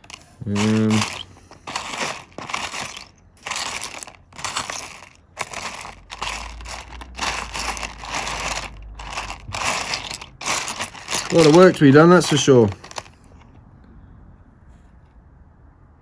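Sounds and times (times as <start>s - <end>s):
stones rattling in a dish: 0.0s - 13.1s.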